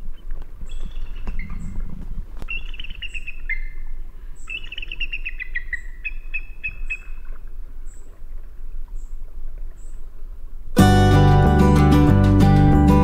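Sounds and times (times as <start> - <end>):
songbird singing: 0.0 - 11.5.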